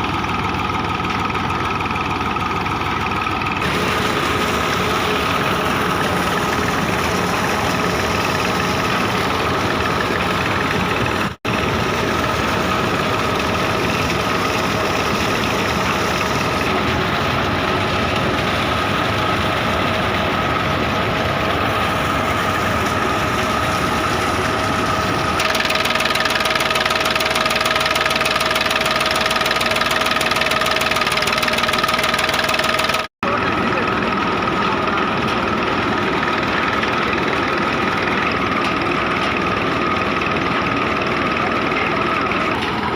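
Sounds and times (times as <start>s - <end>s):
boring rig engine running: 0.0s - 42.9s
constant whine: 0.0s - 42.9s.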